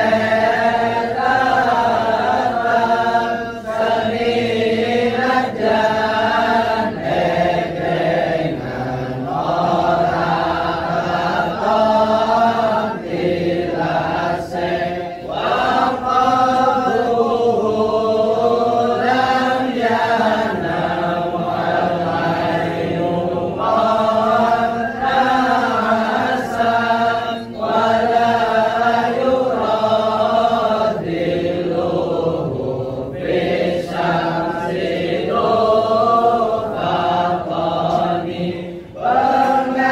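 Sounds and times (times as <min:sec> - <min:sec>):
men chanting in unison: 0:00.0 - 0:39.9.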